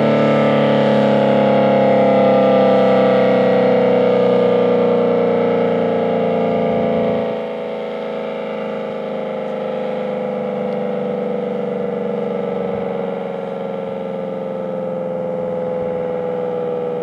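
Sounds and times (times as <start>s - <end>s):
dual-tone warning siren: 0.0s - 17.0s.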